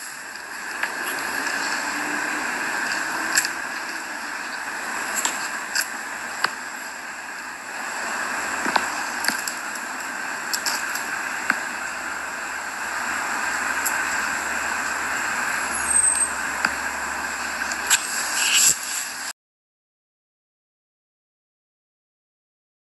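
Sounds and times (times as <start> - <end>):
outdoor background noise: 0.0 - 19.4.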